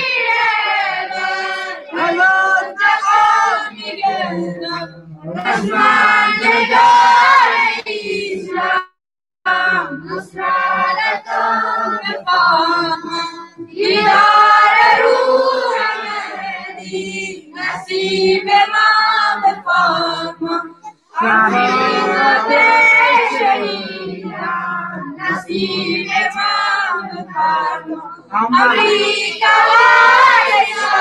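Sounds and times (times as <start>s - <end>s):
child singing through microphone: 0.0s - 7.9s, 9.5s - 31.0s.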